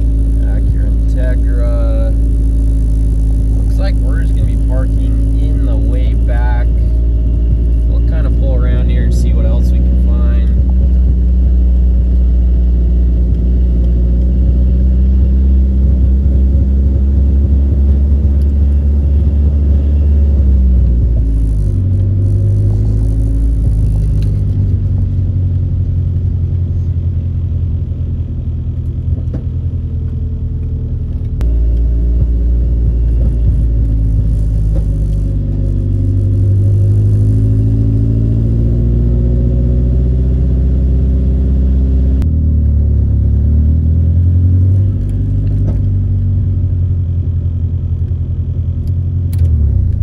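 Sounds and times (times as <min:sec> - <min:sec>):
car engine running inside cabin: 0:00.0 - 0:50.0.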